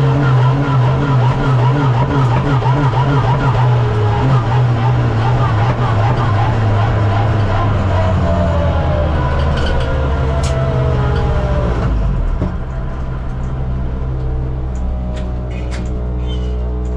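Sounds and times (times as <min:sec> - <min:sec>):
race car engine slowing: 0:00.0 - 0:16.9.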